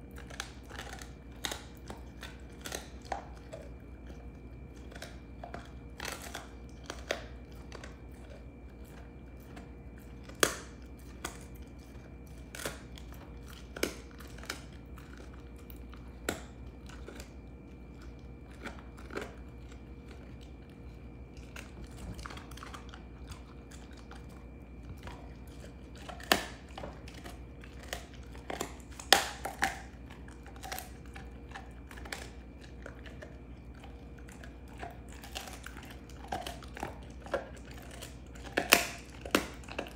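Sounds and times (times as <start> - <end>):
dog gnawing a bone: 0.0 - 39.9.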